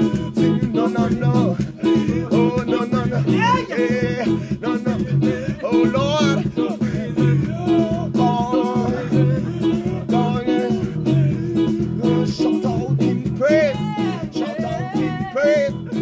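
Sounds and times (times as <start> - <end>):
gospel music on electronic keyboard: 0.0 - 16.0
person singing: 0.0 - 16.0.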